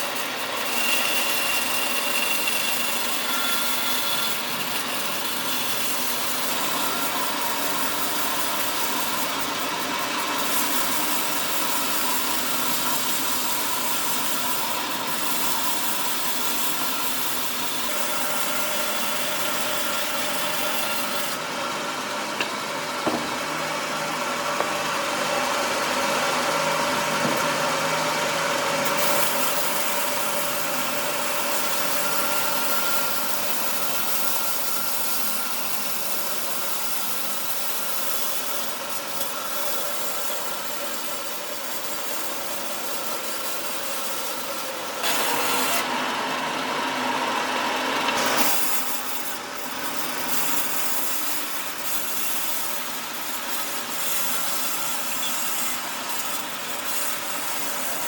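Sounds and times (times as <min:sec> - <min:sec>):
sawing machine cutting wood: 0:00.0 - 0:58.0.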